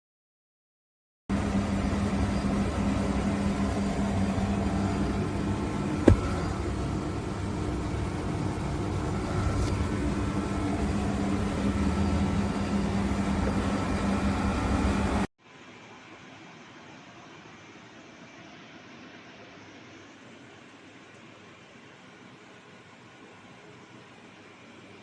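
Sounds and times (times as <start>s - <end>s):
machine low hum: 1.3s - 25.0s.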